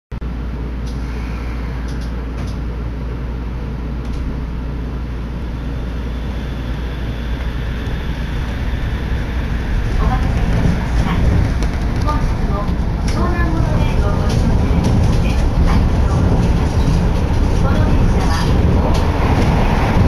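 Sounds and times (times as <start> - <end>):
monorail car humming: 0.2 - 20.0.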